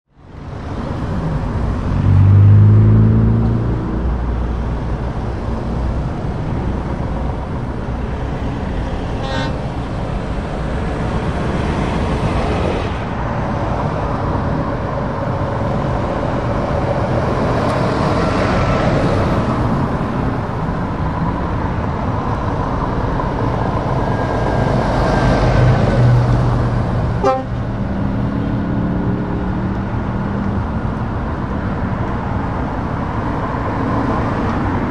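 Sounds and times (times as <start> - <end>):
low engine drone passing: 0.1 - 34.9
road traffic passing: 0.1 - 34.9.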